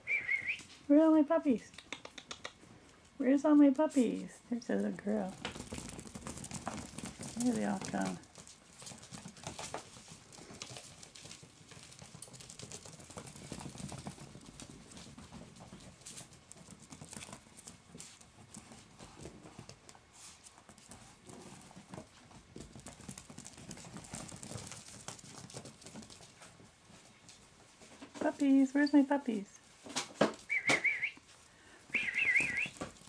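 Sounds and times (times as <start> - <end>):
puppy paws tapping: 0.2 - 33.0.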